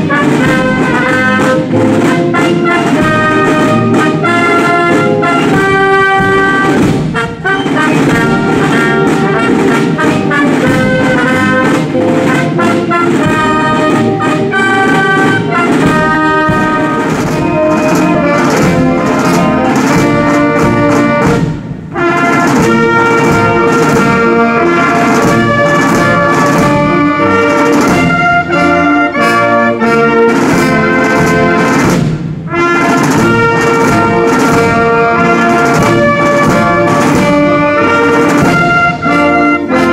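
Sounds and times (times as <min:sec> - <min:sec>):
brass band playing: 0:00.0 - 0:39.9.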